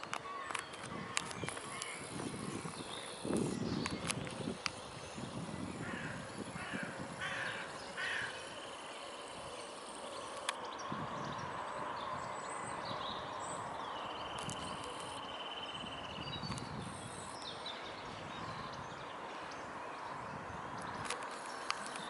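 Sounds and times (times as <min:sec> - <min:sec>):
small birds calling: 0:00.0 - 0:22.0.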